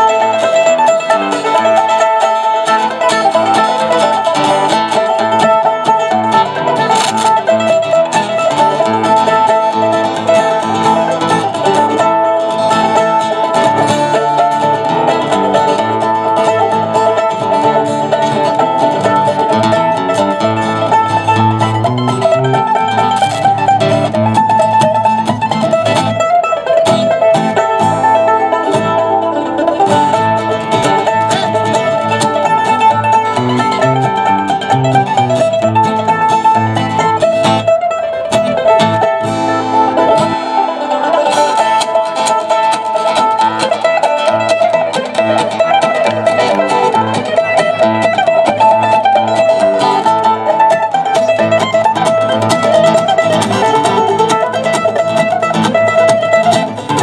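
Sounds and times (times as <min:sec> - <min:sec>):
mandolin picking a lead: 0:00.0 - 0:57.0
strummed acoustic guitar: 0:00.0 - 0:57.0.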